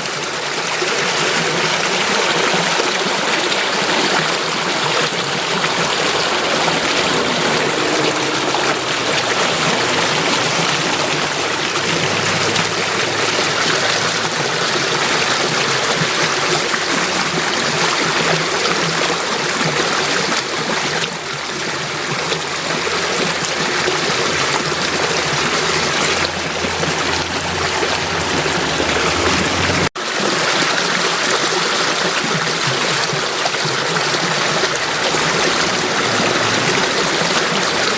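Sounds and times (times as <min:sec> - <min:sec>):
stream water rushing and trickling: 0:00.0 - 0:37.9.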